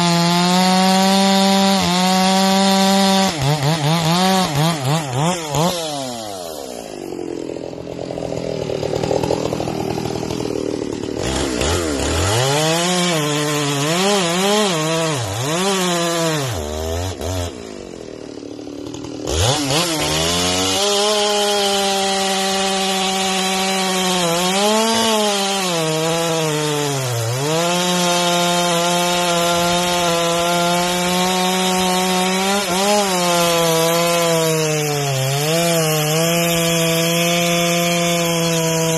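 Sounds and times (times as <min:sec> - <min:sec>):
chainsaw revving and cutting wood: 0:00.0 - 0:38.9.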